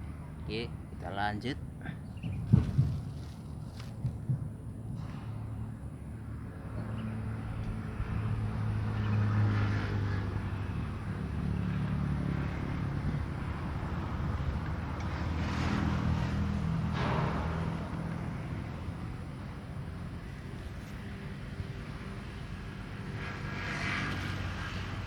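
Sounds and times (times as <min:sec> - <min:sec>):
vehicle engines passing by: 0:00.0 - 0:25.0.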